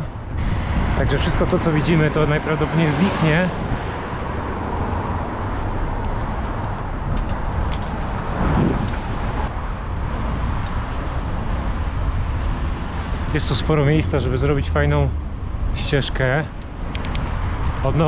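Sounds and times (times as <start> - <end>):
vehicle passing: 0.0 - 15.6
city road traffic: 0.0 - 18.0.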